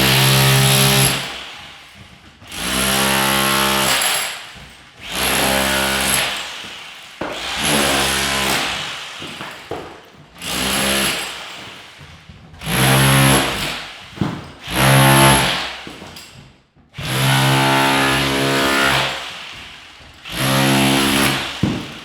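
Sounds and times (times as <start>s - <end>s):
demolition hammer chiselling: 0.0s - 22.0s.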